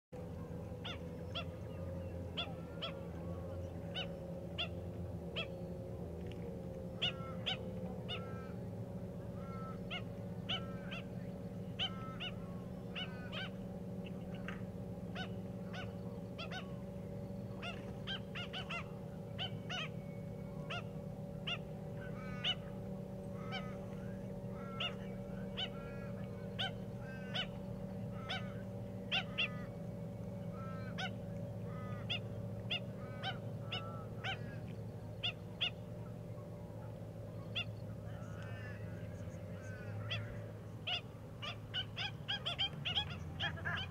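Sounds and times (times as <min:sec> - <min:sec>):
birds honking calls: 0:00.2 - 0:43.9
steady low hum: 0:00.2 - 0:43.9.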